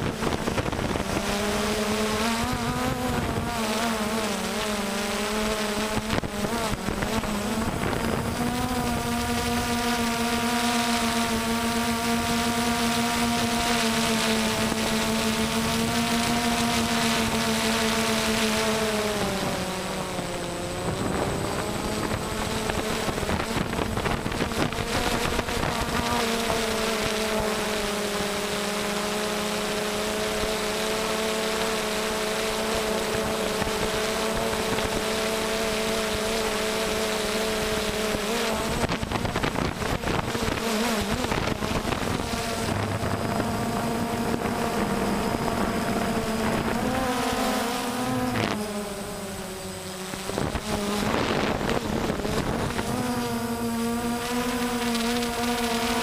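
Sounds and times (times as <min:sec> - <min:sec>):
quadcopter propellers buzzing: 0:00.0 - 0:56.0.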